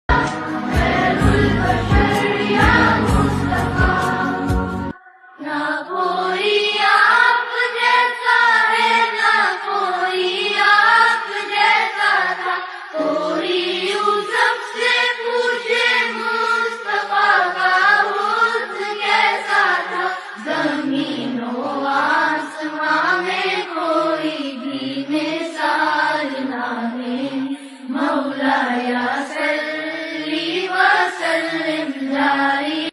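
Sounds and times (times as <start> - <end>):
person singing devotional song: 0.1 - 32.9.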